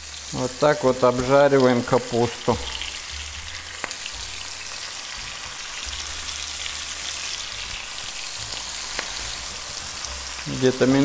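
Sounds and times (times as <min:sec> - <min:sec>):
cabbage sizzling in frying pan: 0:00.0 - 0:11.0.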